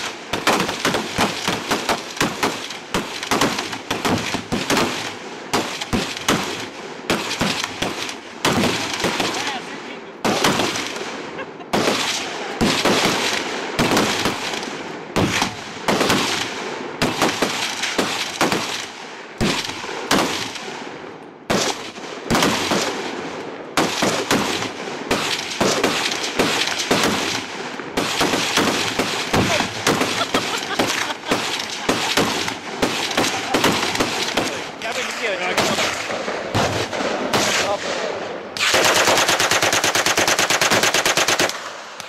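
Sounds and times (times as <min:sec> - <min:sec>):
machine-gun fire bursts: 0:00.0 - 0:09.6, 0:10.2 - 0:20.8, 0:21.5 - 0:41.8.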